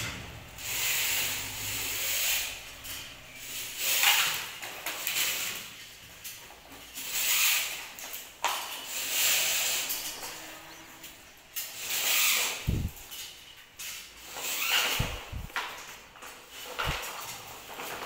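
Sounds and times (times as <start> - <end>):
wires swishing through a pipe: 0.6 - 15.6.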